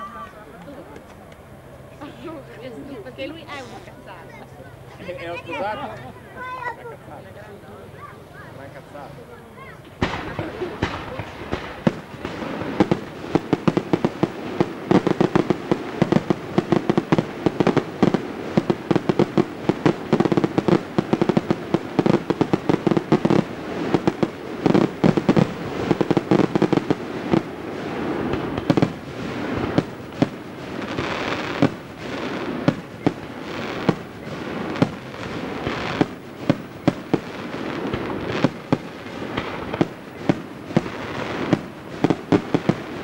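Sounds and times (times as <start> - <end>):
fireworks bursting: 0.6 - 6.8, 8.7 - 43.0.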